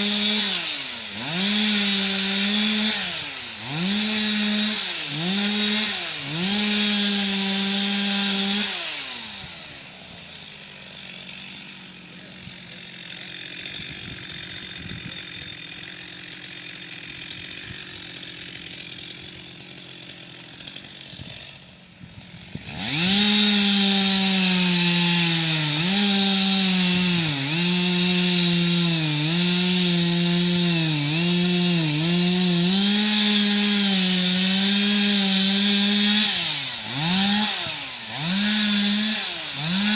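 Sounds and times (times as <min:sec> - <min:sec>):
chainsaw cutting wood: 0:00.0 - 0:39.9
chainsaw revving and idling: 0:00.0 - 0:39.9.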